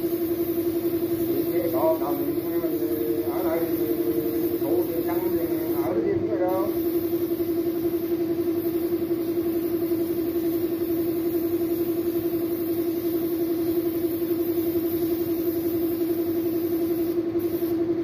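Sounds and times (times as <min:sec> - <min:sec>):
spray gun hissing: 0:00.0 - 0:06.0, 0:06.6 - 0:17.7
air compressor humming: 0:00.0 - 0:18.0.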